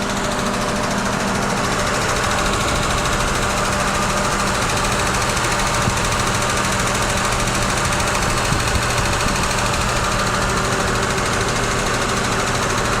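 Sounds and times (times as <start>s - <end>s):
car engine idling: 0.0s - 13.0s
knock inside engine: 0.0s - 13.0s.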